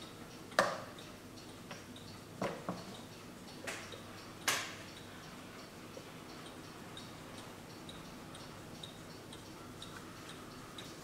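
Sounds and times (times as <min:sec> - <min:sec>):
clock ticking: 0:00.0 - 0:11.0.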